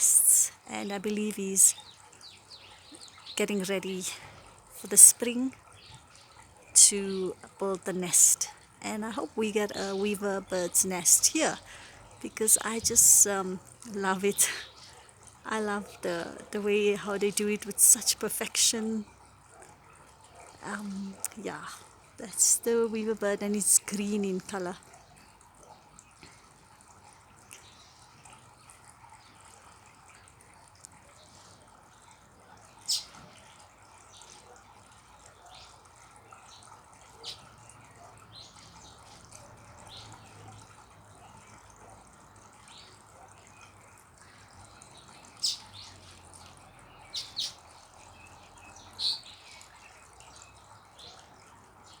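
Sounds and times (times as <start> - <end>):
birds chirping: 0.0 - 30.3, 31.0 - 52.0.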